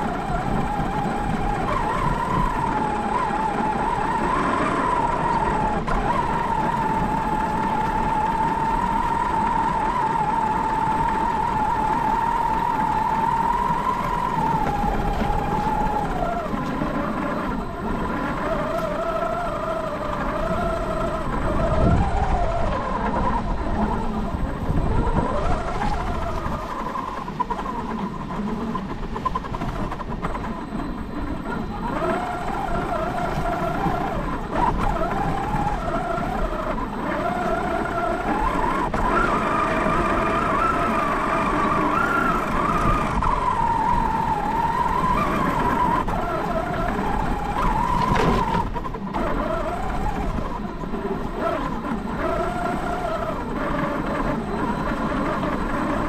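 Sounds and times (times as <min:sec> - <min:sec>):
electric motor and gear whine: 0:00.0 - 0:56.0
tyres rumbling in snow: 0:00.0 - 0:56.0.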